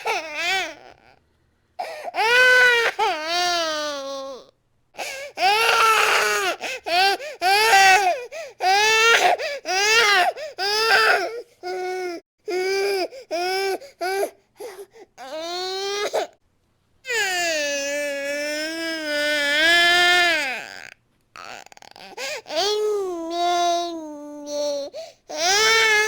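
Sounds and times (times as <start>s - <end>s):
baby crying: 0.0s - 1.1s, 1.8s - 16.3s, 17.1s - 26.0s.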